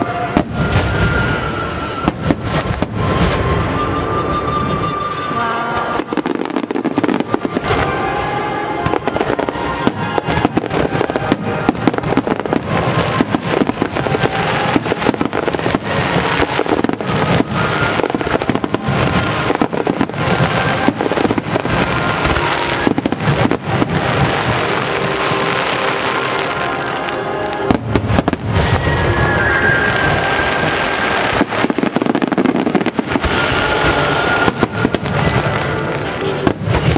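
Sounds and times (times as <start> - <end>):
fireworks bursting: 0.0 - 36.9
music playing: 0.0 - 36.9.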